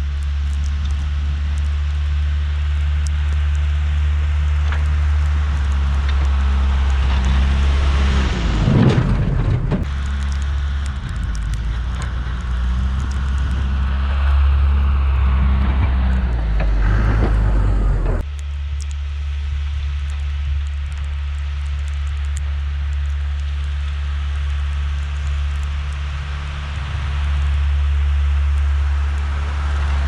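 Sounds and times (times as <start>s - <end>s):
scattered clicks: 0.0s - 17.4s, 18.1s - 30.0s
diesel engine running: 0.0s - 30.0s
gritty hiss: 0.0s - 30.0s.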